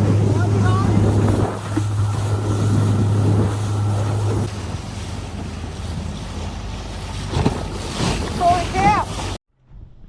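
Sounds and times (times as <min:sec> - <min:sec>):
motorboat engine running: 0:00.0 - 0:09.4
wind on microphone: 0:00.0 - 0:10.0.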